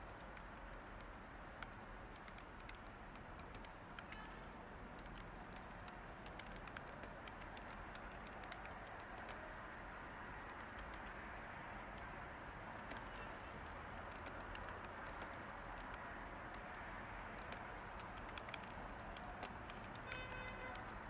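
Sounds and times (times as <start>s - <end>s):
keyboard typing: 0.0s - 9.5s, 10.3s - 11.2s, 11.8s - 21.0s
faint white noise hiss: 0.0s - 21.0s.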